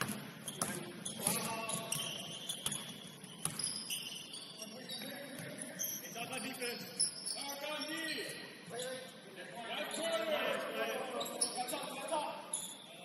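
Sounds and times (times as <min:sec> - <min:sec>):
sneakers squeaking: 0:00.0 - 0:09.2, 0:09.8 - 0:13.0.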